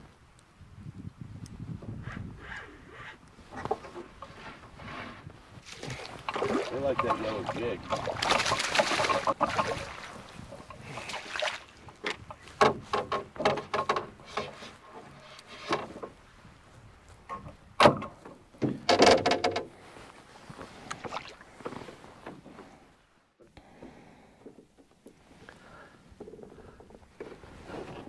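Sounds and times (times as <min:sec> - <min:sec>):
knocks and clatter inside a canoe: 0:01.1 - 0:28.0.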